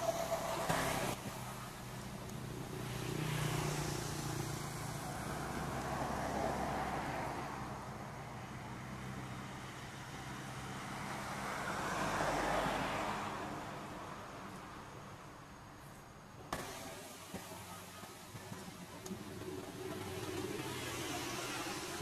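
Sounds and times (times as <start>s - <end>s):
low engine hum: 0.0s - 22.0s
vehicles passing: 0.0s - 22.0s.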